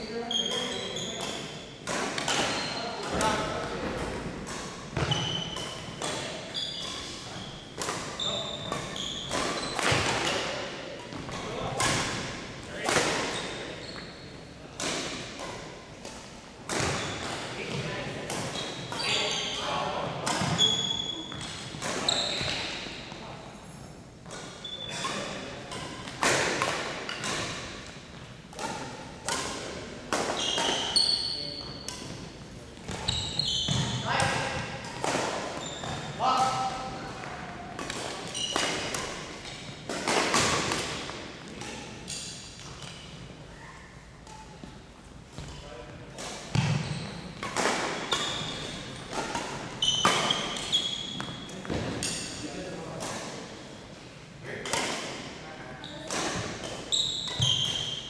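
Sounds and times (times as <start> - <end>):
sneakers squeaking: 0.0 - 53.9, 54.6 - 58.0
rackets smacking shuttlecock: 0.4 - 13.6, 14.7 - 19.3, 20.2 - 22.8, 24.2 - 43.2, 44.2 - 52.4, 54.6 - 55.4, 56.0 - 58.0.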